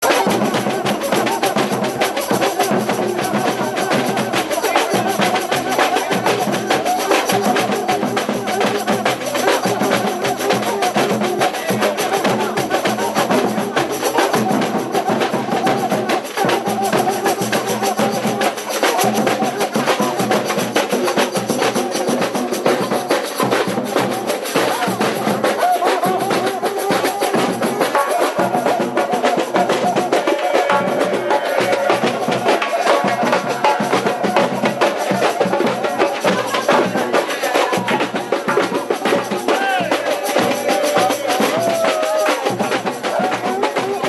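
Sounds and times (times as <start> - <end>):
samba drumming: 0.0 - 44.0.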